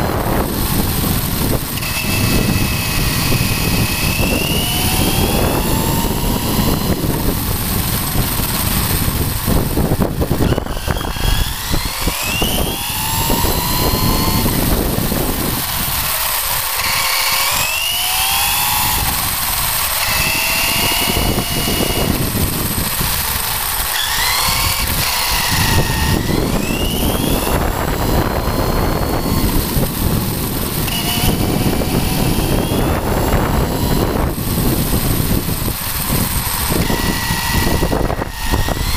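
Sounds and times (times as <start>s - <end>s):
electric motor whining: 0.0s - 38.9s
rumble of tyres and drivetrain: 0.0s - 38.9s.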